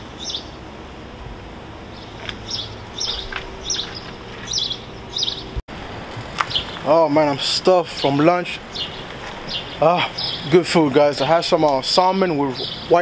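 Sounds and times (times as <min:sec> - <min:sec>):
birds chirping: 0:00.0 - 0:00.7, 0:01.7 - 0:05.6, 0:06.2 - 0:13.0.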